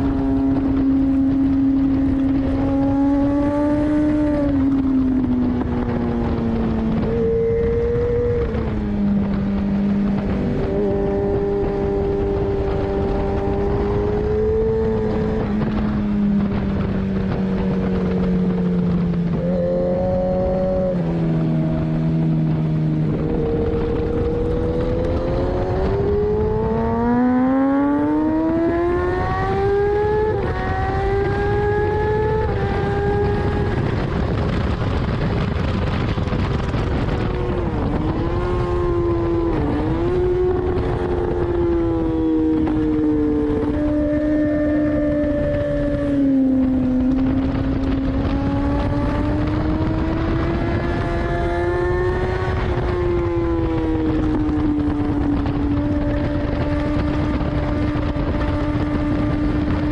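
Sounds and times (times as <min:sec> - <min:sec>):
motorcycle engine accelerating: 0:00.0 - 0:59.9
wind rushing over microphone: 0:00.0 - 0:59.9.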